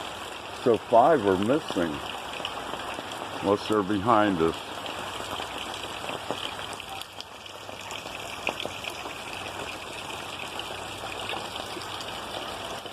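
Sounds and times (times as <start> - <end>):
light rain: 0.0 - 12.9
raindrops ticking close: 0.0 - 12.9.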